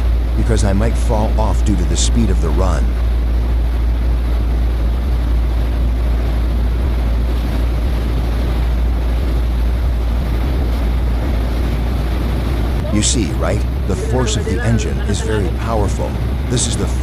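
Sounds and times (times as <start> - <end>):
boat diesel engines rumbling: 0.0 - 17.0
propeller wash rushing: 0.0 - 17.0
wind on microphone: 2.9 - 17.0.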